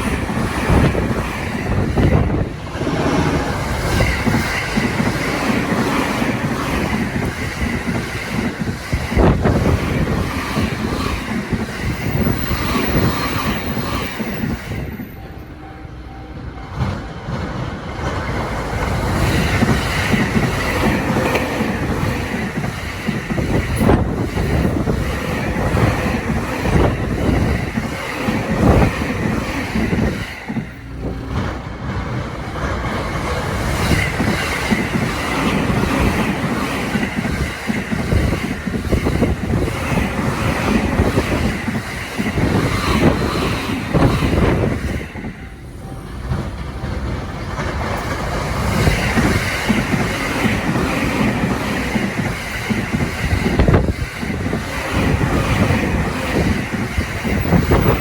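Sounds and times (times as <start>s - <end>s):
train wheels clattering over rail joints: 0.0s - 15.2s, 16.8s - 45.4s, 46.2s - 58.0s.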